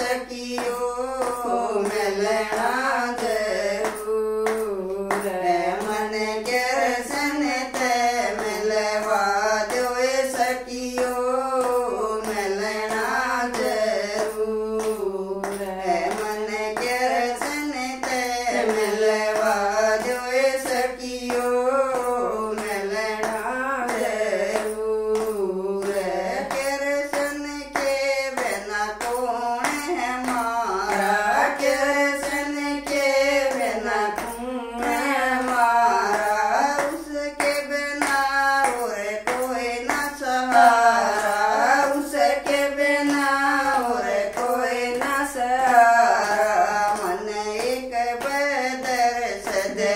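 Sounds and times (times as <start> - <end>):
hands clapping to a beat: 0.0 - 49.9
women singing together: 0.0 - 49.9.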